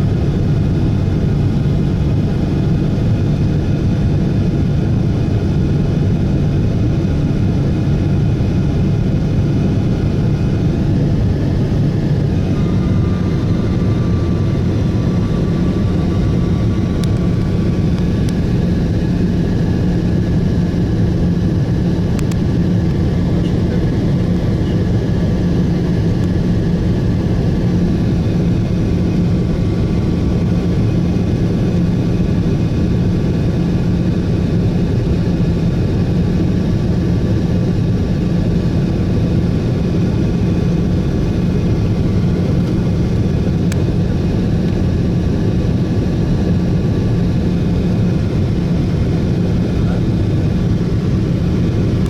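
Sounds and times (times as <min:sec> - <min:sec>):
jet engine cabin noise: 0:00.0 - 0:52.0.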